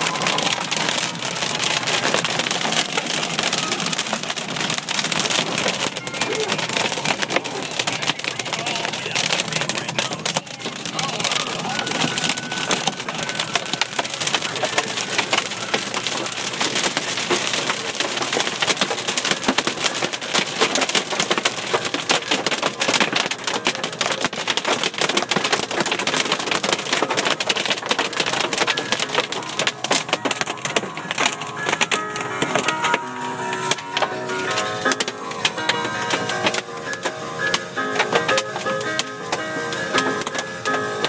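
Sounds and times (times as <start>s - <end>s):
hail clattering on car: 0.0s - 41.0s.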